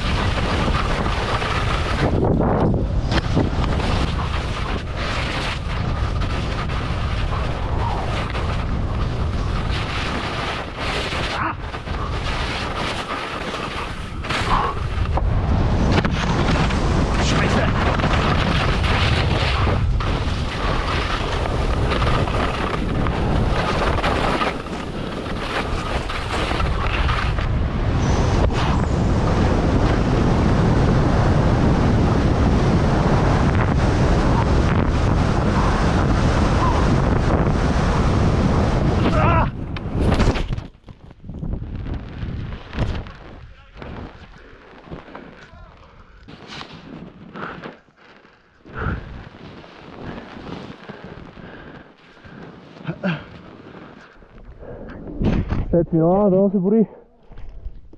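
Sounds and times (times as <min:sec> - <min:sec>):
wind buffeting microphone: 0:00.0 - 0:12.8, 0:13.7 - 0:47.7, 0:48.6 - 0:56.1
skis scraping over snow: 0:00.0 - 0:39.0, 0:39.7 - 0:54.6.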